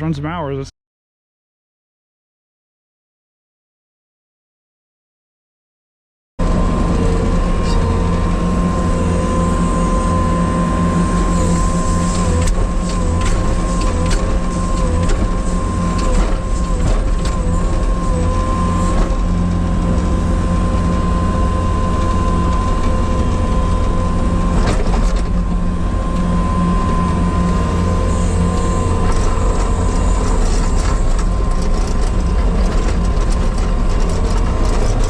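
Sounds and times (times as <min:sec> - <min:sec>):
high whine: 0:06.4 - 0:34.8
diesel engine running: 0:06.4 - 0:35.0.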